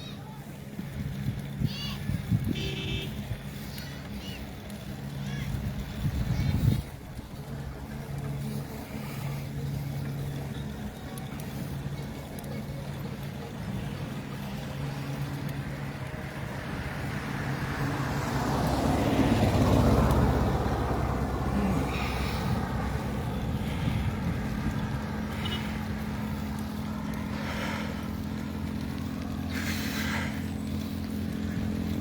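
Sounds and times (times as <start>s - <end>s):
vehicle engine running: 0.0s - 32.0s
vehicle passing close by: 0.7s - 32.0s.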